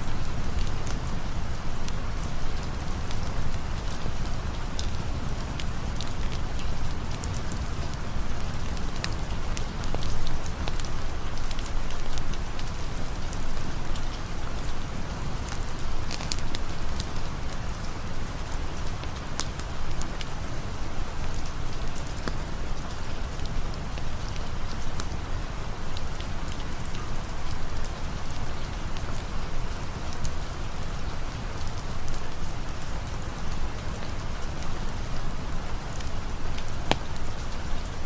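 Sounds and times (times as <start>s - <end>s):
campfire crackling: 0.0s - 38.0s
steady rain: 0.0s - 38.0s.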